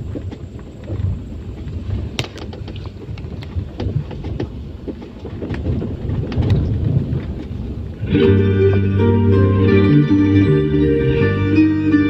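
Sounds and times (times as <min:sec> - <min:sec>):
excavator rumbling: 0:00.0 - 0:12.0.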